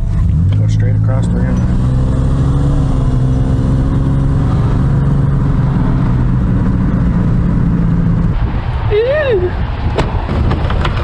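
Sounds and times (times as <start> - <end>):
car engine drone: 0.0 - 11.0
road rumble: 0.0 - 11.0.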